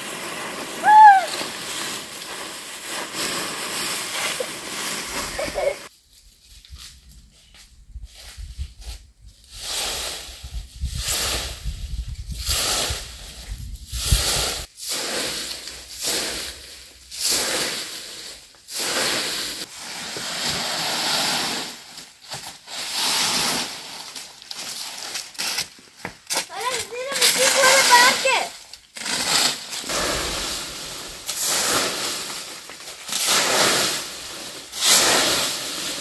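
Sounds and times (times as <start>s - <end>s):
broom sweeping dry leaves: 0.0s - 36.0s.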